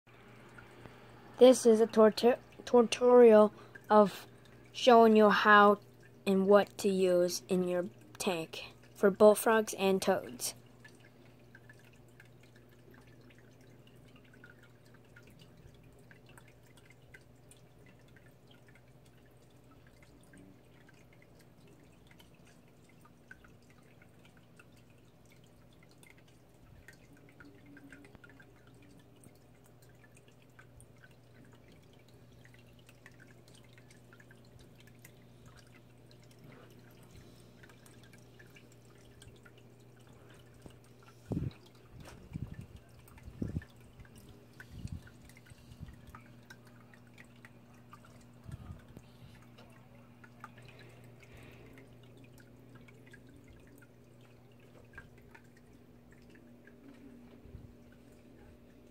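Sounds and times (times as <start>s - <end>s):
low steady hum: 0.1s - 58.9s
water dripping and trickling: 0.1s - 58.9s.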